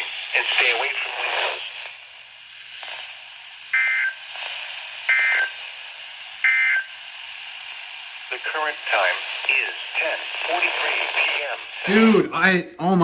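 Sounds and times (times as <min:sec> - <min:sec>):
radio hiss: 0:00.0 - 0:12.5.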